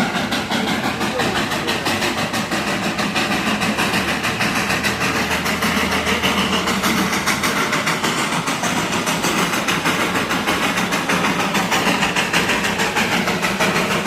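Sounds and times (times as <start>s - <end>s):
train locomotive running: 0.0s - 14.0s.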